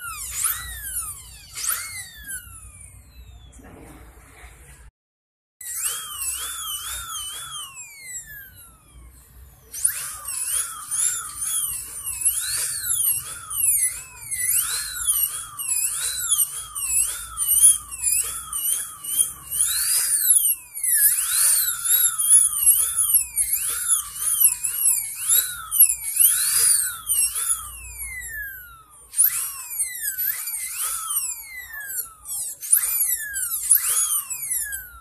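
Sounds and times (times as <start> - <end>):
dental drill whining: 0.0 - 3.6, 5.6 - 35.0.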